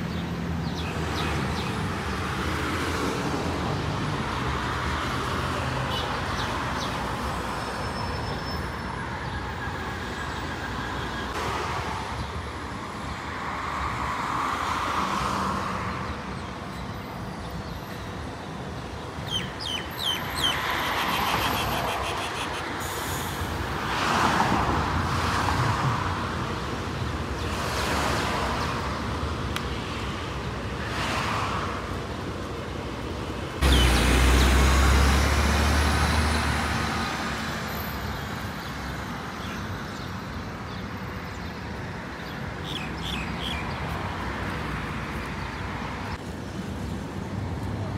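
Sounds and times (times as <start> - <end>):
traffic passing: 0.0 - 47.9.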